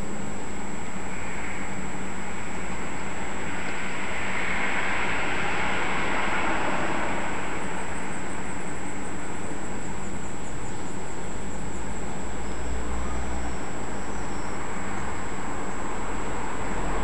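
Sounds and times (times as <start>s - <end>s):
rushing traffic noise: 0.0s - 17.0s.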